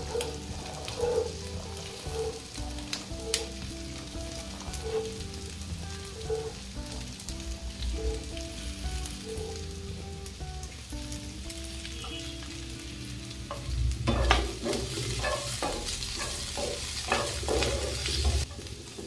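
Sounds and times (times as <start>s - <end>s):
soft melody of held notes: 0.0s - 18.5s
vegetables sizzling in oil: 0.0s - 19.0s.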